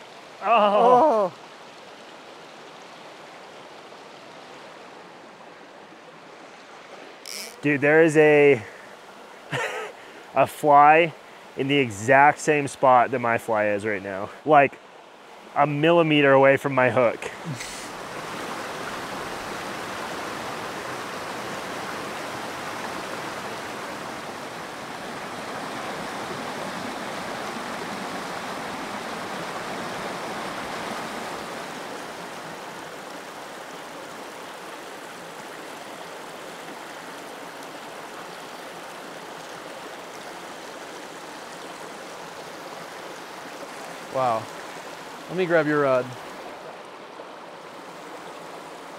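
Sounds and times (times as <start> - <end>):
stream rushing over rocks: 0.0 - 48.9.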